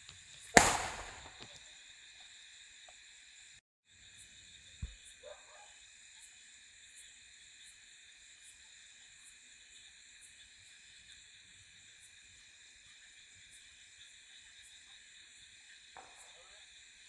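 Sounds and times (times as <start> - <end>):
cricket chirping: 0.0 - 17.0
insects buzzing: 0.0 - 17.0.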